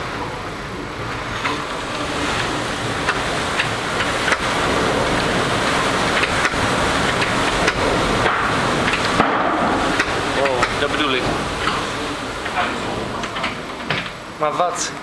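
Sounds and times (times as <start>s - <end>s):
hurricane wind: 0.0s - 15.0s
rain against house: 0.0s - 15.0s.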